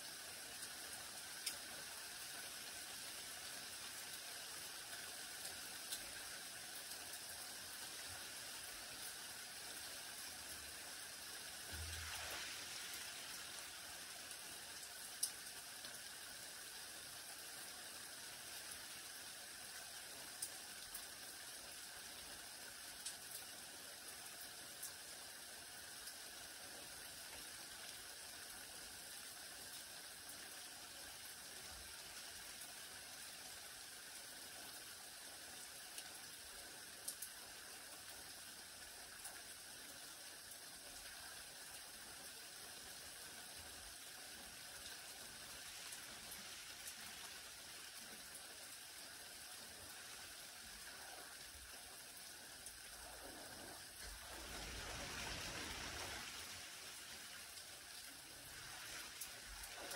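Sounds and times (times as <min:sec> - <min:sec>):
light rain on leaves: 0:00.0 - 0:59.9.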